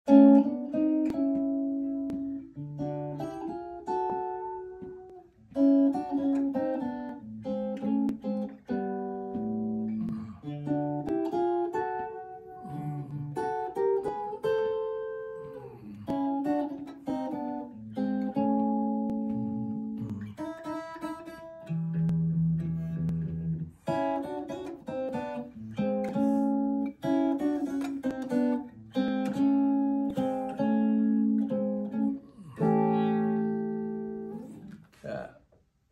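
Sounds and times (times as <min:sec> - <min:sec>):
clean electric guitar: 0:00.0 - 0:35.3.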